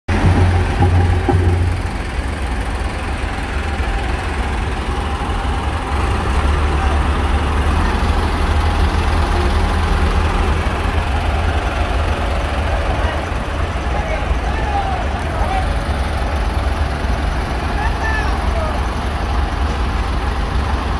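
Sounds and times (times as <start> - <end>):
tractor engines rumbling: 0.0 - 20.9.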